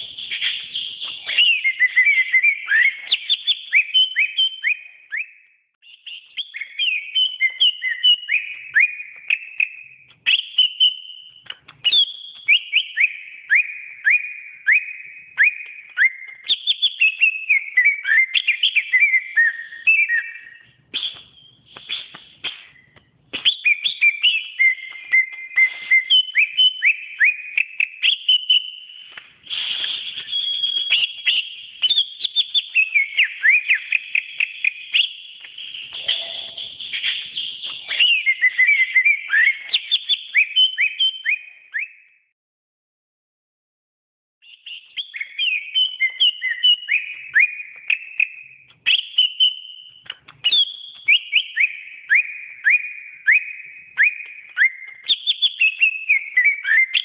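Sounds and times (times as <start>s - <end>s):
bird singing whistles and chatter: 0.0s - 42.1s, 44.4s - 57.0s.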